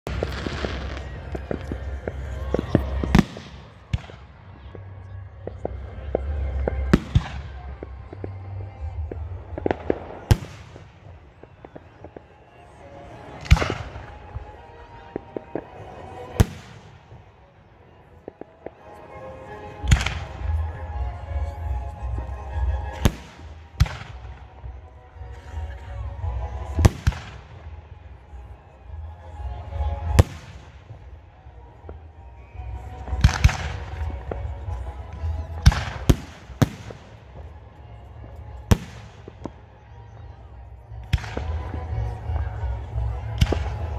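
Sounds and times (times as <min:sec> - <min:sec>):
faint fireworks pops: 0:00.0 - 0:17.4, 0:18.1 - 0:20.8, 0:22.1 - 0:28.6, 0:30.0 - 0:43.9.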